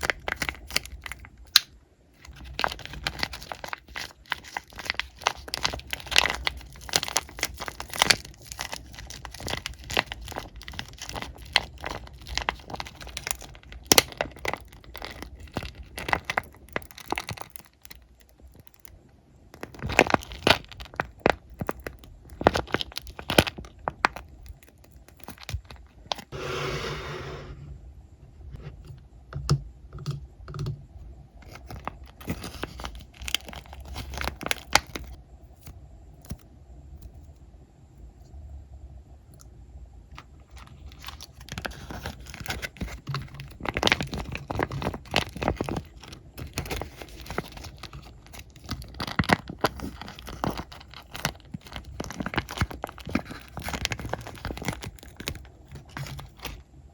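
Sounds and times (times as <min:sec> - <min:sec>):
squishy toys crackling: 0:00.0 - 0:26.3, 0:31.4 - 0:36.5, 0:40.2 - 0:56.6.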